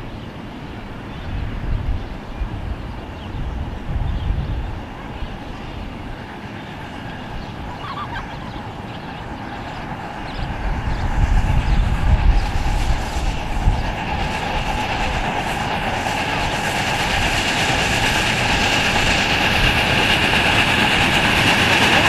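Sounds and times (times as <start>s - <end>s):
model steam locomotive running: 0.0s - 22.0s.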